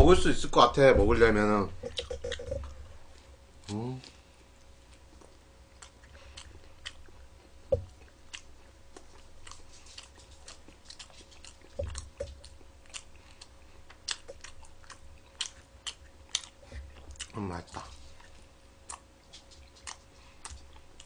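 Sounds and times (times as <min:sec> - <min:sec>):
chewing with wet mouth clicks: 0:01.8 - 0:21.0.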